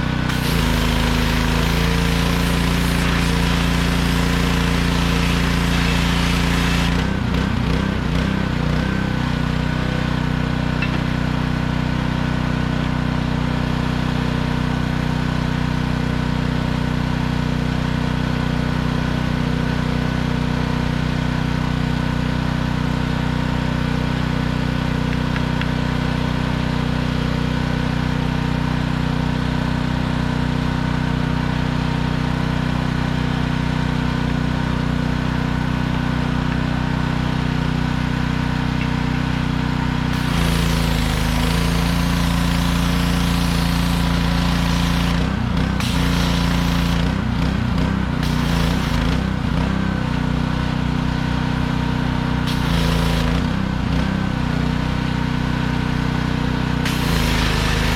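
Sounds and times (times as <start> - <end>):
pressure washer engine running: 0.0 - 57.9.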